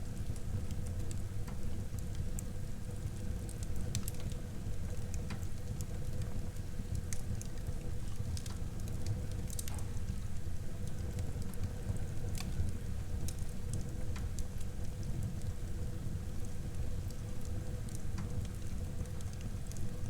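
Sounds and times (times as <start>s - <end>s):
burning wood crackling and popping: 0.0s - 20.0s.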